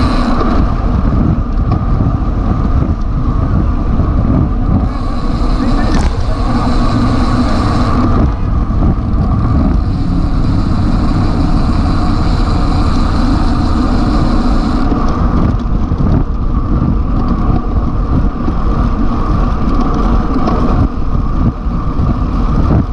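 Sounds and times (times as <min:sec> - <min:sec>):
road and tyre noise: 0:00.0 - 0:22.9
wind rushing over microphone: 0:00.0 - 0:22.9.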